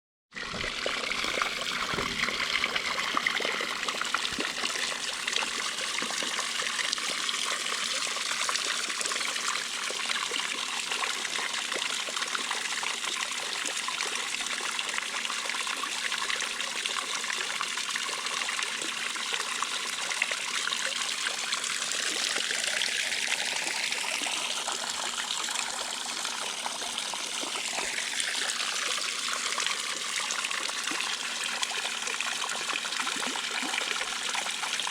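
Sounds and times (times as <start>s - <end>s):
water splashing into pool: 0.4s - 15.2s, 16.3s - 34.9s.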